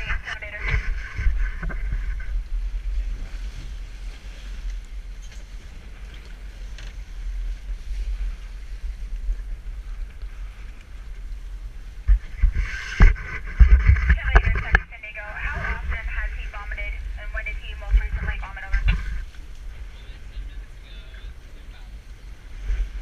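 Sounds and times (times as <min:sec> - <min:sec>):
boat motors rumbling: 0:00.0 - 0:23.0
hull on the water: 0:00.0 - 0:23.0
wind buffeting the microphone: 0:00.0 - 0:23.0.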